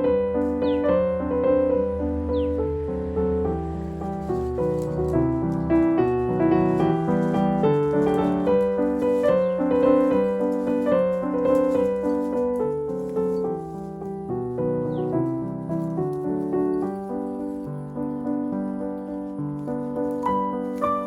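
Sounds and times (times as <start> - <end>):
piano melody: 0.0 - 21.0.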